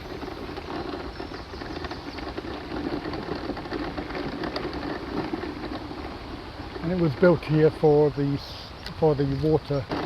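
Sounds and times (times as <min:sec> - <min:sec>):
scooter motor hum: 0:00.0 - 0:08.5, 0:09.2 - 0:10.0
tyres crackling over gravel: 0:00.0 - 0:10.0.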